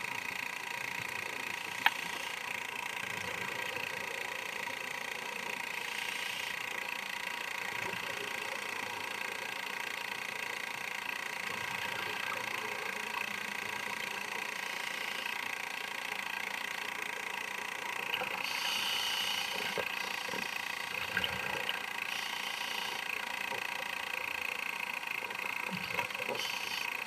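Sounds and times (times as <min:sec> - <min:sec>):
camcorder mechanical hum and hiss: 0:00.0 - 0:27.0.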